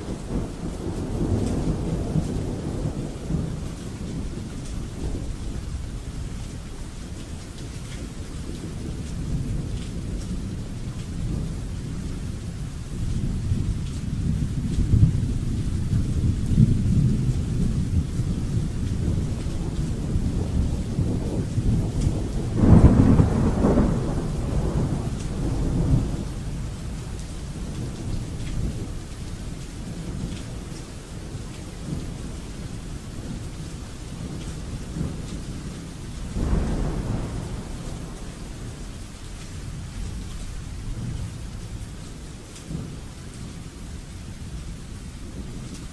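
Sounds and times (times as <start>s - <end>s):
rolling thunder: 0.0s - 6.5s, 8.0s - 45.9s
steady rain: 0.0s - 45.9s.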